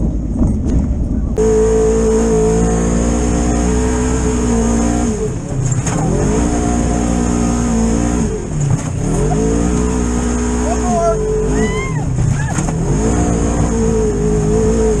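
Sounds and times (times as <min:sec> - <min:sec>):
engine running at high revs: 0:00.0 - 0:15.0.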